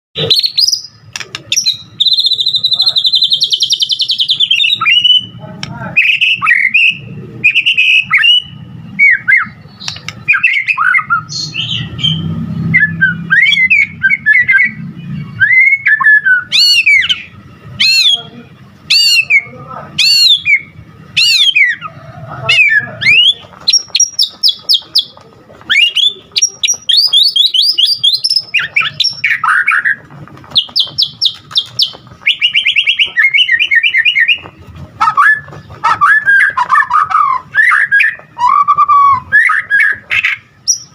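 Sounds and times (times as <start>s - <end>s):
songbird singing whistled phrases: 0.2s - 18.3s, 18.9s - 21.9s, 22.5s - 25.1s, 25.7s - 40.9s.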